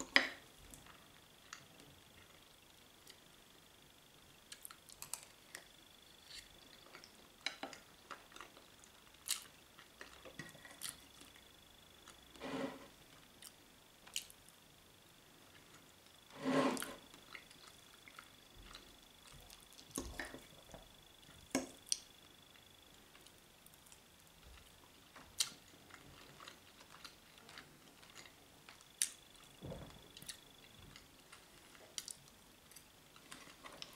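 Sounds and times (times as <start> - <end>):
faint high whine: 0.0 - 33.9.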